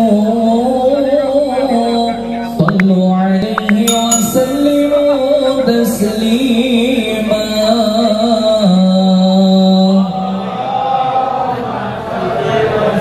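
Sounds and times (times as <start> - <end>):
man singing devotional chant: 0.0 - 13.0.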